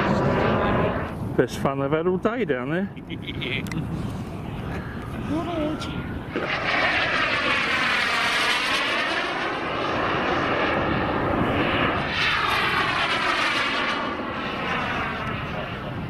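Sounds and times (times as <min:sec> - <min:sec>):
model jet flying past: 0:00.0 - 0:02.4, 0:04.3 - 0:16.0.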